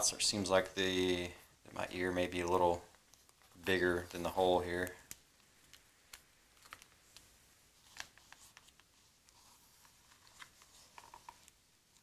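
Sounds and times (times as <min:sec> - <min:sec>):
handling clicks and rustles: 0:01.8 - 0:12.0.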